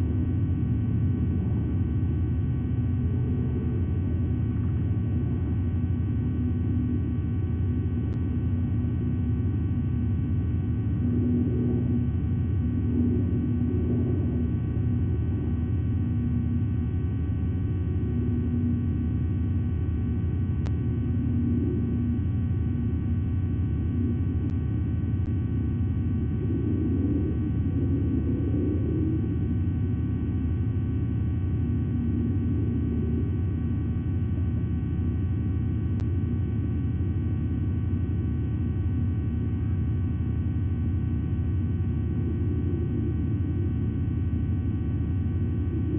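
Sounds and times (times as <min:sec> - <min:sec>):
faint hum: 0:00.0 - 0:45.9
low background rumble: 0:00.0 - 0:45.9
thin electrical whine: 0:00.0 - 0:45.9.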